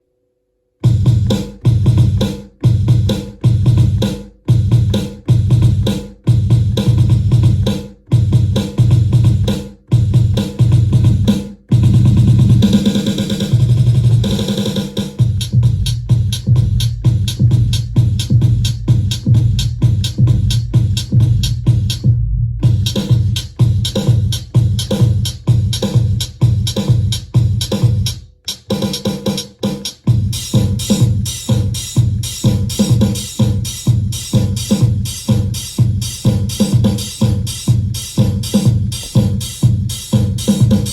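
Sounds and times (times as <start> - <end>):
electronic drum beat: 0.8 - 40.9.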